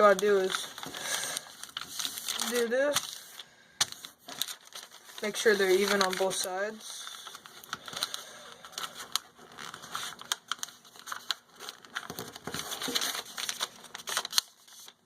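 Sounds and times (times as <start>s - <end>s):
paper being folded and creased: 0.0s - 15.0s.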